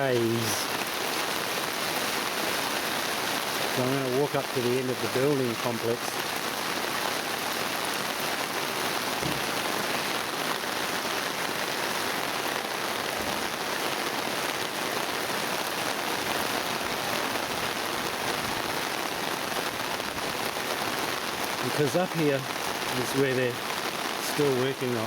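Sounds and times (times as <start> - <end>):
heavy rain on an umbrella: 0.0 - 25.0.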